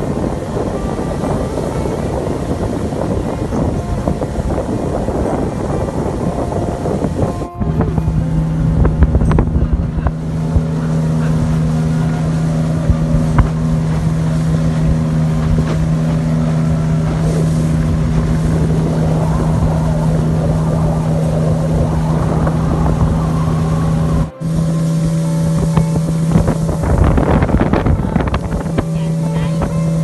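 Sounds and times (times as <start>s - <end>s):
boat motor droning: 0.0s - 30.0s
water noise: 0.0s - 30.0s
wind: 0.0s - 30.0s.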